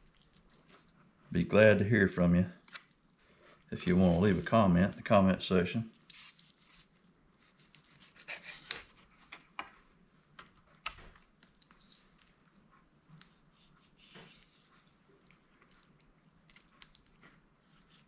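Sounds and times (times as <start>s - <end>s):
knife and hands working raw chicken: 0.0s - 1.2s, 2.0s - 5.3s, 5.9s - 18.0s.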